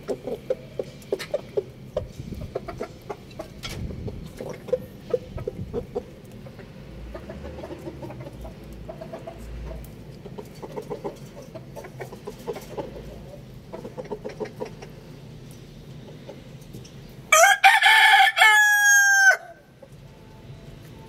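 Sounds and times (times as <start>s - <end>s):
chickens clucking: 0.0s - 17.2s.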